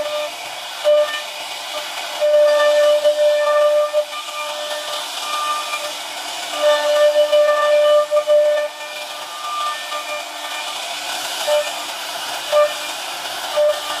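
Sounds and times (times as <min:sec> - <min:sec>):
router spindle cutting wood: 0:00.0 - 0:14.0.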